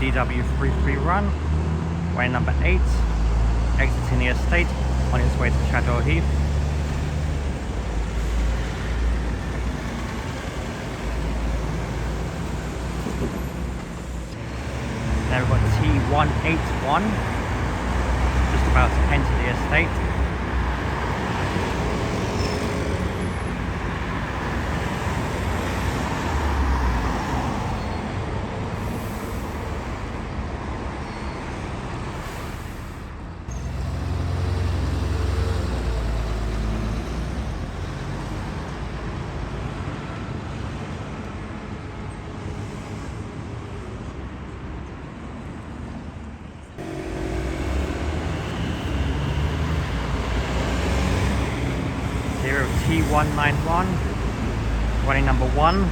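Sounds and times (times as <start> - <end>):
bus engine rumbling: 0.0 - 42.0, 46.3 - 55.9
road traffic noise: 0.0 - 55.9.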